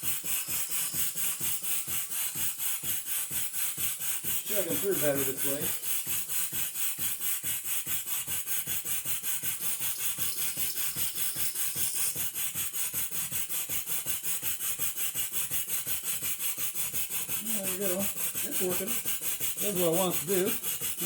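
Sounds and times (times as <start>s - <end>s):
saw blade cutting wood: 0.0s - 21.0s
steam engine chugging: 0.0s - 21.0s.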